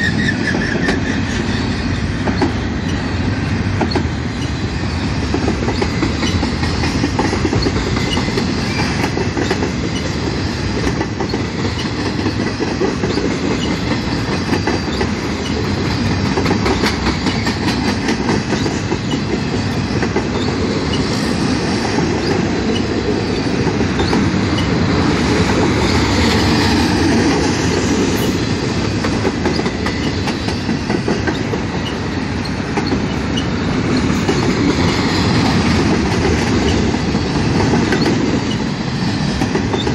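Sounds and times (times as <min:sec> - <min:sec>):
train wheels rumbling on rail: 0:00.0 - 0:39.9
wheels clacking over rail joints: 0:00.2 - 0:39.9.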